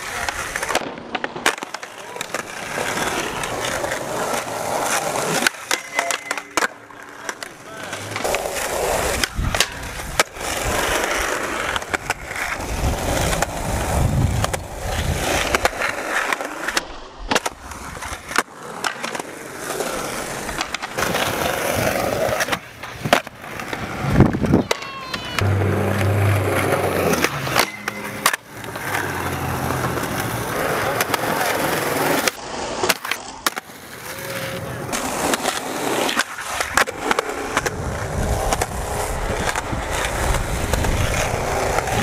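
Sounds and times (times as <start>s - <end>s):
skateboard wheels rolling on concrete: 0.0s - 42.0s
skateboard tail popping clacks: 0.1s - 19.3s, 20.4s - 42.0s.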